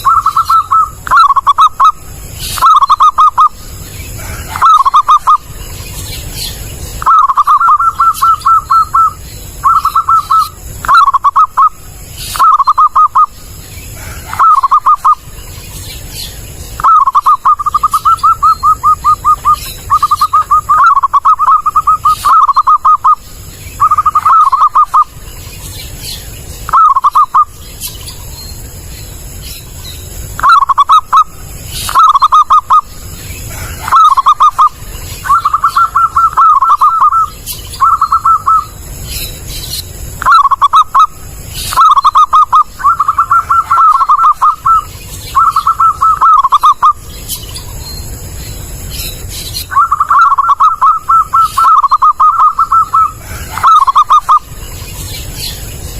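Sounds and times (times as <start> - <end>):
dove cooing: 0.0 - 15.4, 16.0 - 26.0, 26.7 - 27.6, 30.2 - 38.9, 40.1 - 47.0, 49.6 - 54.6.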